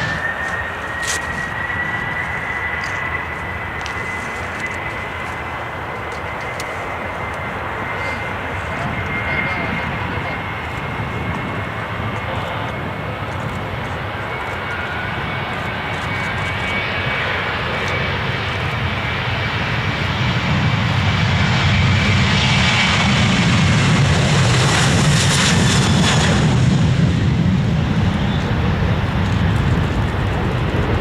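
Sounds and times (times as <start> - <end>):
airliner engines passing: 0.0 - 31.0.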